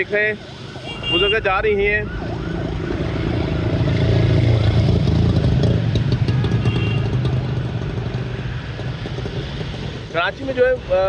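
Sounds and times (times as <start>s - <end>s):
auto-rickshaw engine droning: 2.0s - 11.0s.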